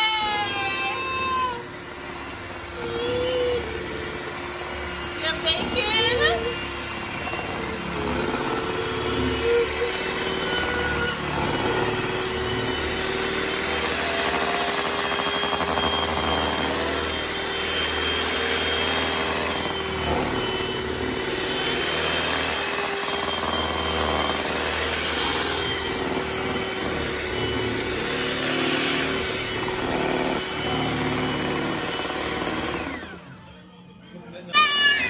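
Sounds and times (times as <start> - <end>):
electric hand mixer whirring: 0.0 - 33.6, 34.5 - 35.0.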